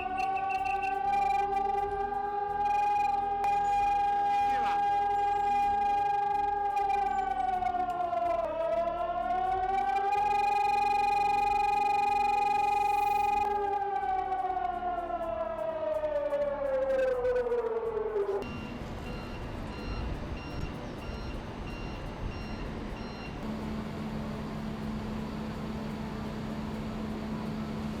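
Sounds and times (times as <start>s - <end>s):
air-raid siren wailing: 0.0s - 28.0s
steady low hum: 0.0s - 28.0s
street noise: 0.0s - 28.0s.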